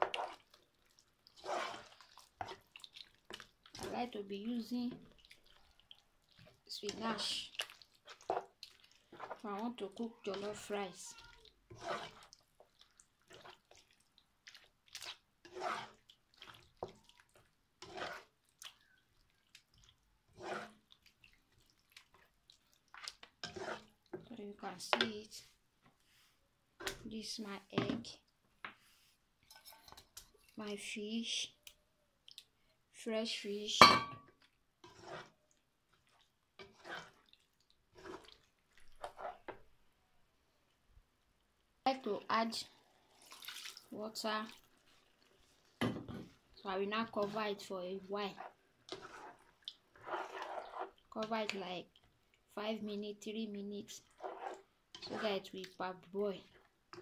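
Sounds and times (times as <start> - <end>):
spoon stirring stew in pan: 0.0 - 26.0, 33.3 - 40.0, 40.7 - 57.0.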